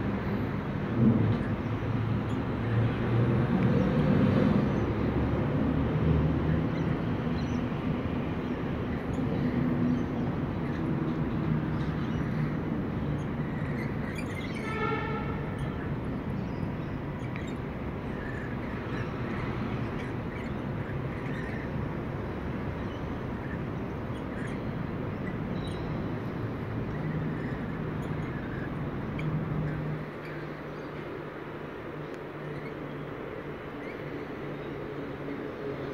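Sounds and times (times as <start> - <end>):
street traffic: 0.0 - 35.9.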